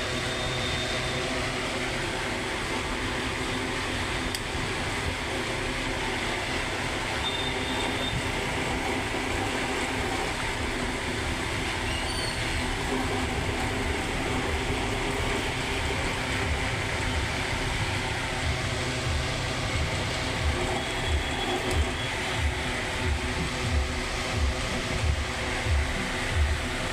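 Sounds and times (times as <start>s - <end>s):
electric fan running: 0.0s - 26.9s.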